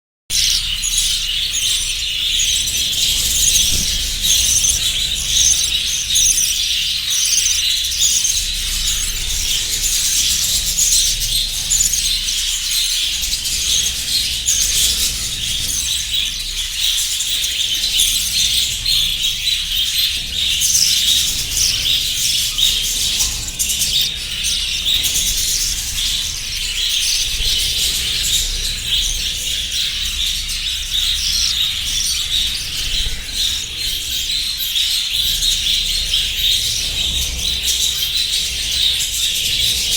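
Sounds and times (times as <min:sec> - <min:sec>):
cage birds chirping: 0:00.3 - 0:39.9.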